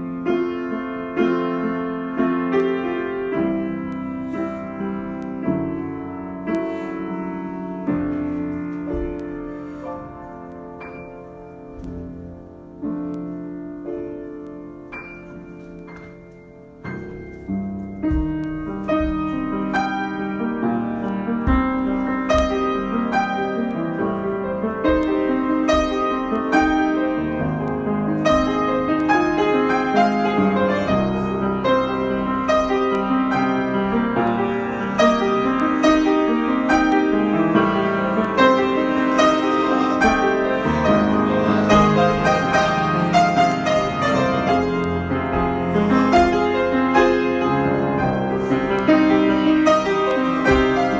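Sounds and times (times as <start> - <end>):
solo piano music: 0.0 - 50.9.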